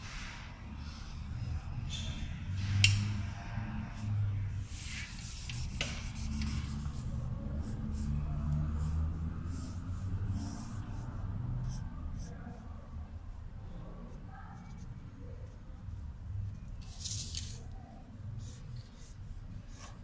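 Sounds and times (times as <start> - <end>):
low background murmur: 0.4 - 20.0.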